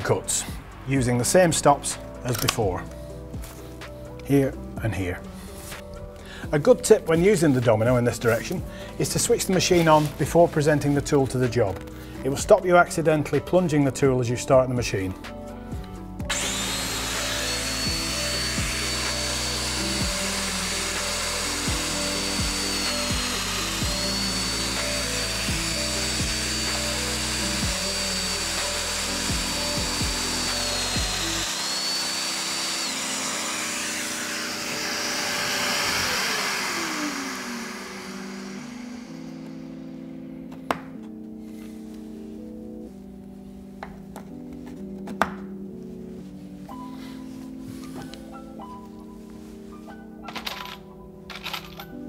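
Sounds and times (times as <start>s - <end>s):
background music: 0.0s - 52.0s.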